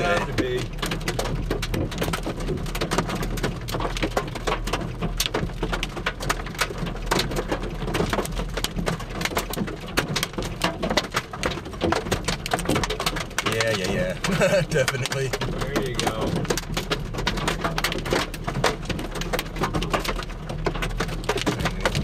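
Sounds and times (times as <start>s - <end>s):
rain tapping on vehicle: 0.0s - 22.0s.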